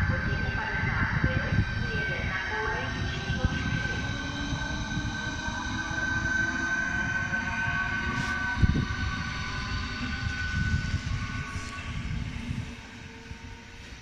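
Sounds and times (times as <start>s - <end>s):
train motor high whine: 0.0s - 14.0s
train wheels rumbling on rails: 0.0s - 14.0s.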